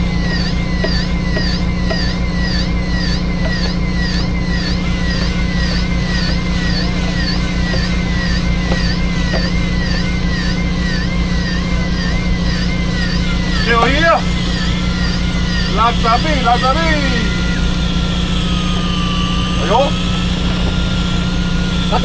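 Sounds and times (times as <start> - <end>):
boat engine humming: 0.0 - 22.0
high whine wavering in pitch: 0.0 - 22.0.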